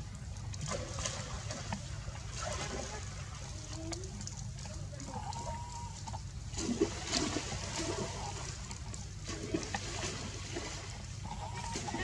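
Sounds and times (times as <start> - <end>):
steady low rumble: 0.0 - 12.0
water sloshing and splashing: 0.0 - 12.0.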